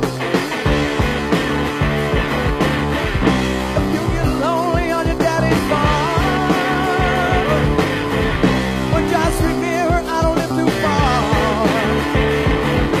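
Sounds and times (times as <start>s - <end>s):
electric guitar lead: 0.0s - 13.0s
hard rock music: 0.0s - 13.0s.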